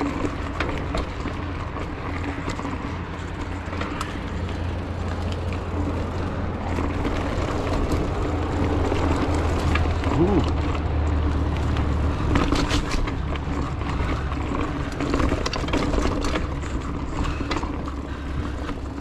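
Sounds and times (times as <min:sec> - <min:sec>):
bike clicks and rattles: 0:00.0 - 0:19.0
bike tyres rolling on dirt: 0:00.0 - 0:19.0.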